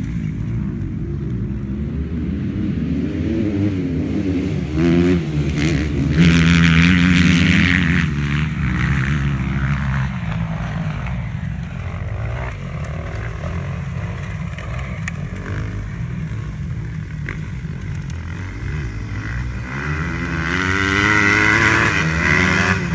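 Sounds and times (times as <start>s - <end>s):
distant dirt bike engines: 0.0s - 22.9s
dirt bike engine revving: 3.2s - 22.9s.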